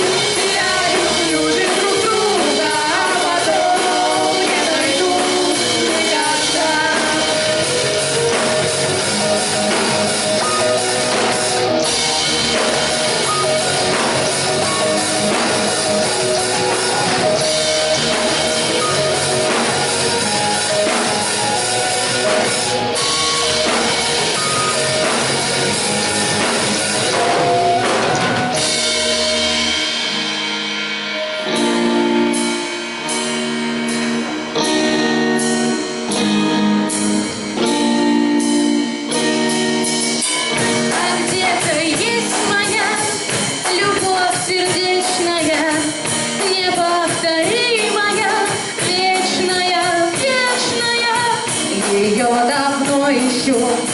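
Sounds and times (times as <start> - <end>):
electric guitar notes: 0.0 - 53.9
rock band playing: 0.0 - 53.9.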